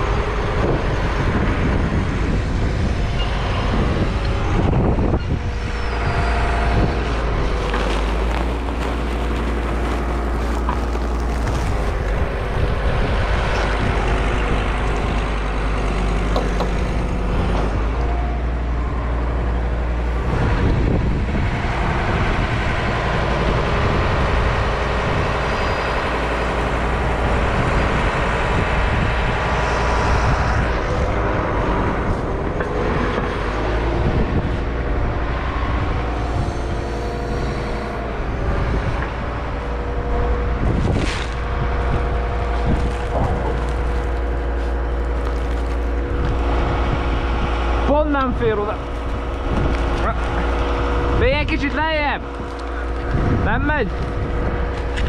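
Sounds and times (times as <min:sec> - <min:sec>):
loader engine revving: 0:00.0 - 0:55.0.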